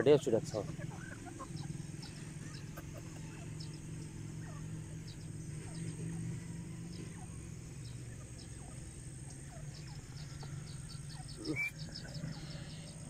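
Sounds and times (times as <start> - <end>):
bird calls with falling notes: 0.0 - 13.0
low hum: 0.0 - 13.0.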